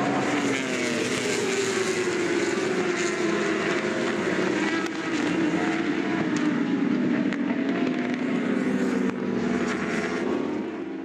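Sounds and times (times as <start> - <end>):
racing motorbikes passing at high revs: 0.0 - 11.0.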